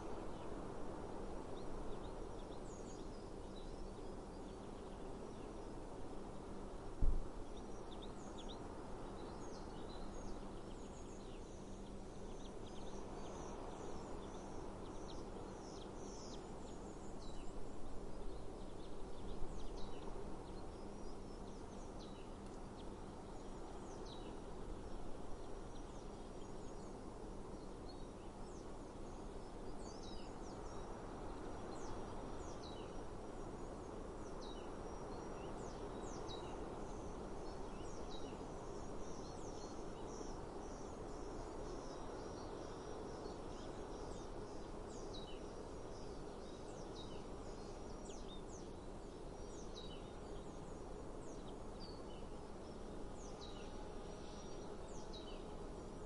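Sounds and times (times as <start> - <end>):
outdoor background noise: 0.0 - 56.0
small birds chirping: 7.4 - 56.0.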